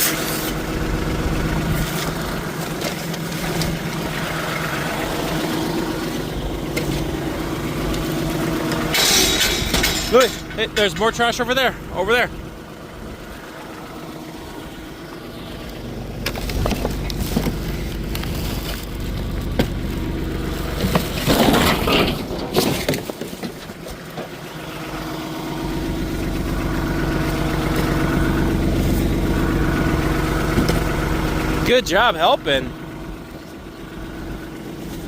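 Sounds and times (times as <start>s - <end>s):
trash crunching: 0.0s - 35.0s
vehicle engine idling: 0.0s - 35.0s.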